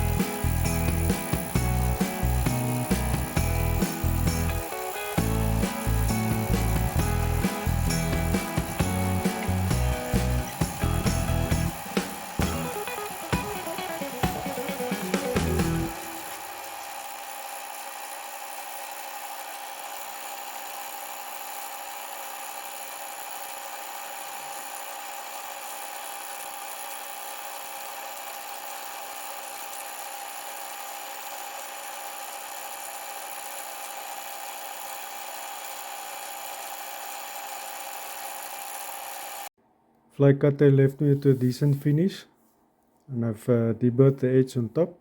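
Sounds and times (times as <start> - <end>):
milling machine cutting metal: 0.0 - 39.5.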